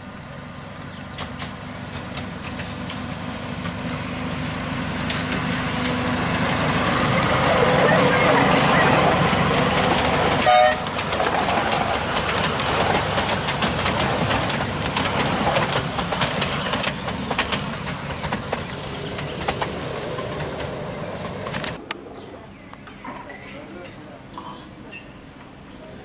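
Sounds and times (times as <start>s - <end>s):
miniature locomotive engine humming: 0.0s - 22.0s
wheels clattering on track: 0.2s - 21.9s.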